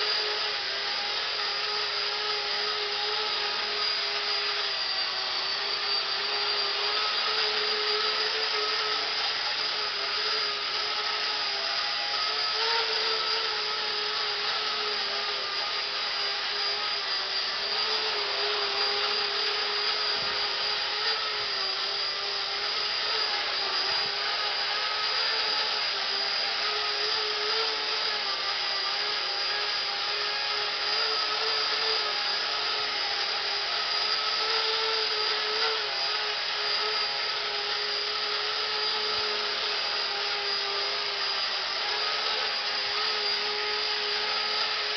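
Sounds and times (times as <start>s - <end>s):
rc helicopter whine: 0.0s - 44.9s.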